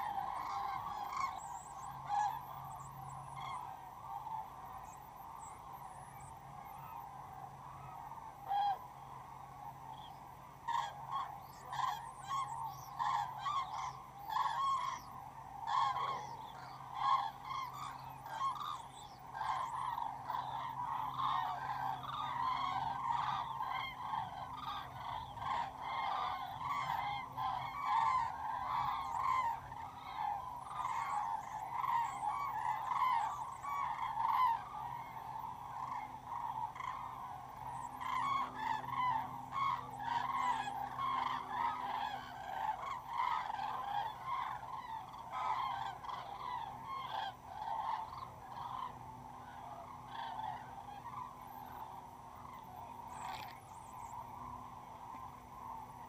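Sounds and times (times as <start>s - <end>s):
cranes trumpeting calls: 0.0s - 56.0s.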